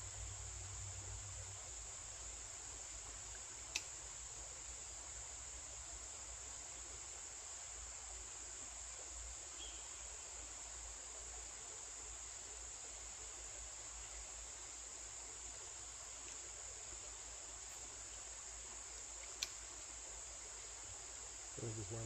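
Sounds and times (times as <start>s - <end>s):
insects calling: 0.0s - 22.0s.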